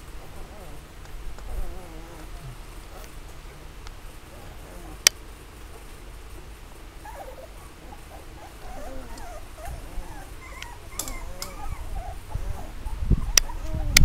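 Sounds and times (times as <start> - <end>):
puppies whimpering and squeaking: 0.0 - 5.1, 6.8 - 14.0.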